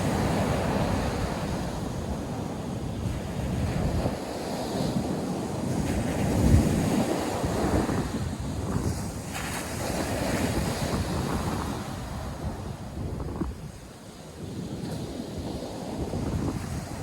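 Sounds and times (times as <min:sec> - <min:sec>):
surf breaking on a beach: 0:00.0 - 0:17.0
wind buffeting microphone: 0:00.0 - 0:17.0.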